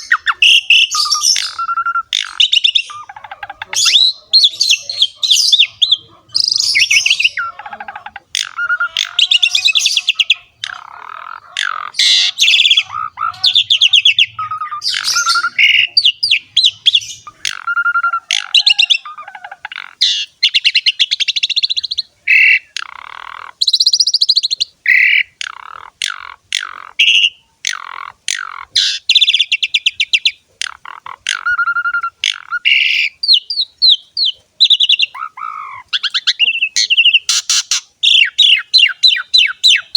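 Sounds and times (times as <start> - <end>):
starling singing rasping and whistling: 0.0 - 39.9.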